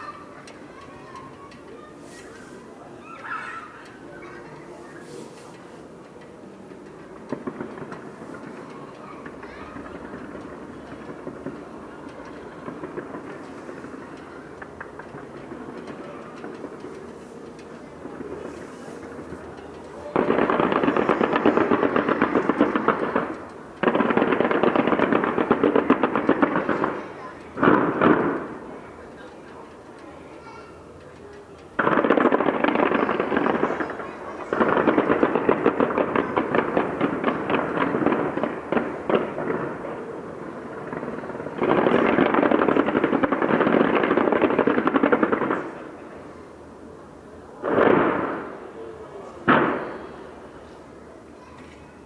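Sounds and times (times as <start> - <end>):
fireworks crackling: 0.0 - 52.0.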